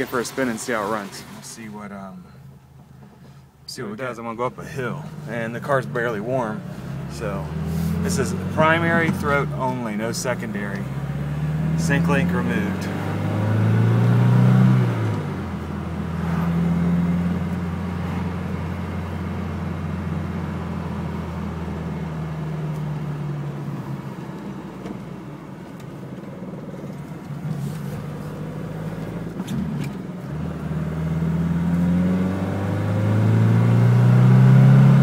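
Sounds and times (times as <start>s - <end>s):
car engine pulling uphill: 0.0s - 35.0s.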